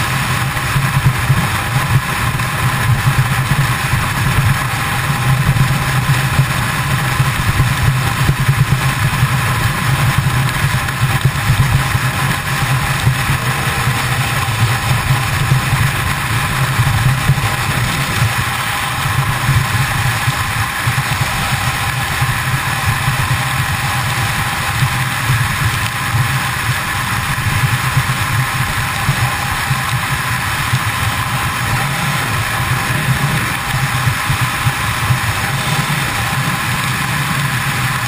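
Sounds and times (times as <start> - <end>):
motorcycle engine cruising: 0.0 - 38.0
wind rush on microphone: 0.0 - 38.0.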